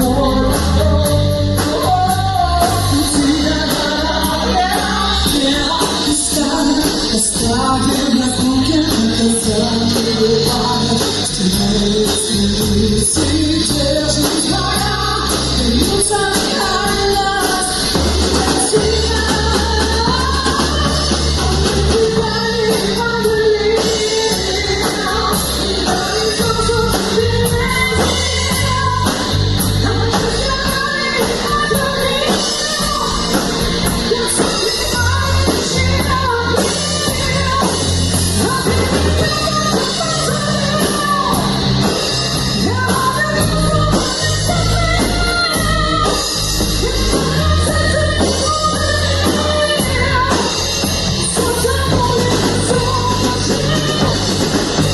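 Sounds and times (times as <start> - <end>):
person singing: 0.0 - 54.9
rock band playing: 0.0 - 54.9.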